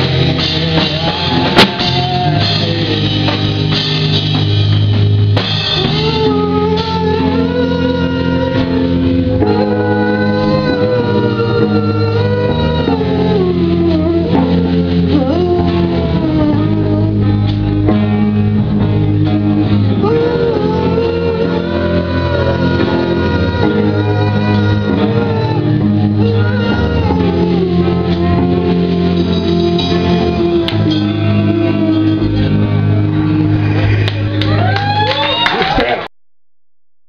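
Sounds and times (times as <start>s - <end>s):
live rock band playing: 0.0s - 36.0s
person singing lead vocal: 0.0s - 36.0s
distorted electric guitars: 0.0s - 36.1s.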